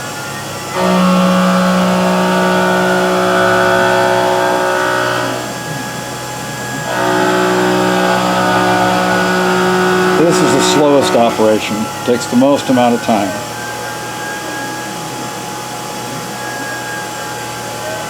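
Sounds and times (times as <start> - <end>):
mill cutting metal whine: 0.0 - 18.0.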